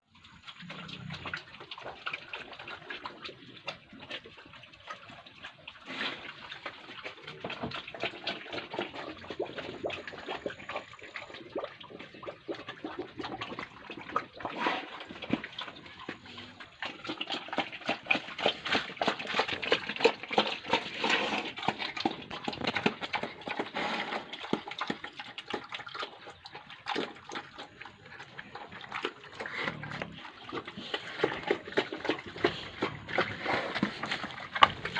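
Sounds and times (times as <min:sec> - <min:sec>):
pig chewing wet feed: 0:00.1 - 0:34.9.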